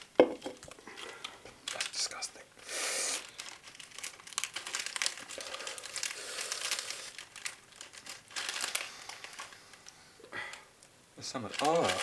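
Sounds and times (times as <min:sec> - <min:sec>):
plastic snack packet crinkling: 0:00.0 - 0:02.4, 0:03.1 - 0:10.6, 0:11.2 - 0:12.0.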